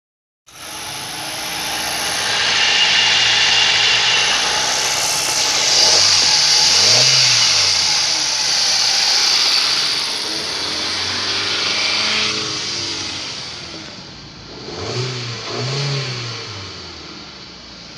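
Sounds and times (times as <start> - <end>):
car engine revving: 0.5 - 17.9.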